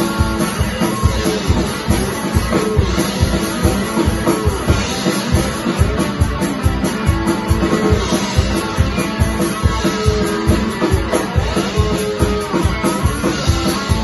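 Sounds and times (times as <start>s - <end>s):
electric guitar lead: 0.0s - 14.0s
steady drum beat: 0.0s - 14.0s.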